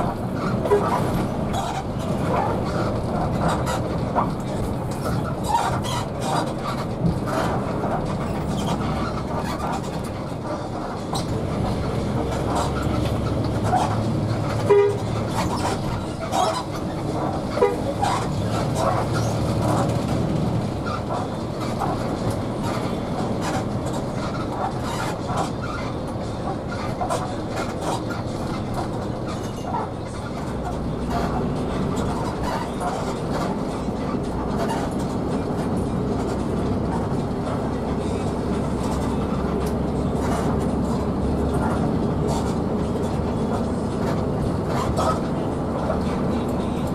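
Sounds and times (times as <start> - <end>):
bus engine and road drone: 0.0 - 46.9.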